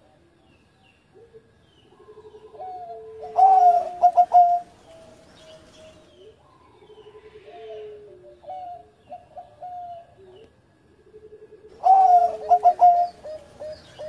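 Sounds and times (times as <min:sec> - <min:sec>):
dove cooing: 0:01.1 - 0:14.0.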